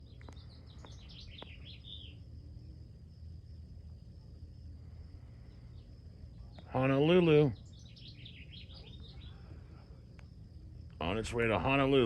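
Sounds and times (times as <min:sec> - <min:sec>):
faint low rumble: 0:00.0 - 0:12.0
small birds chirping: 0:00.0 - 0:12.0.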